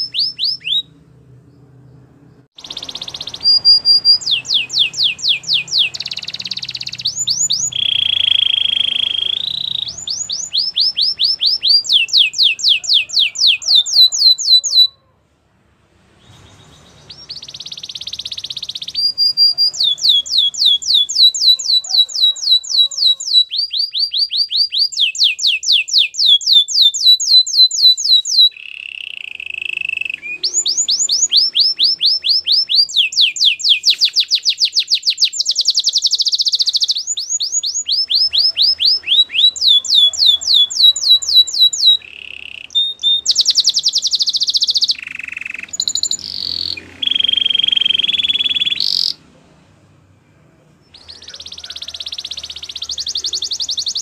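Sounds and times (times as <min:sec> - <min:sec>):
canary singing trills: 0:00.0 - 0:15.1, 0:16.2 - 0:49.4, 0:50.8 - 0:54.0.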